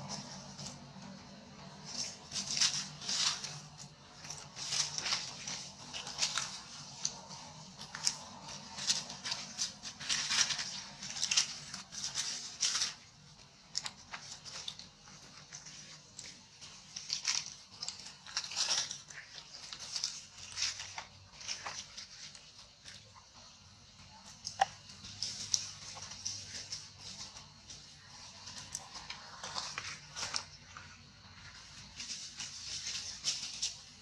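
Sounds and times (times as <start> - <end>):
dry leaves rustling and crackling: 0.0 - 34.0.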